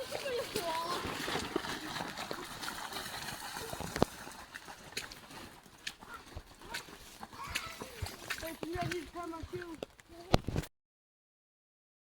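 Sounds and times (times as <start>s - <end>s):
water splashing and trickling: 0.0s - 10.7s.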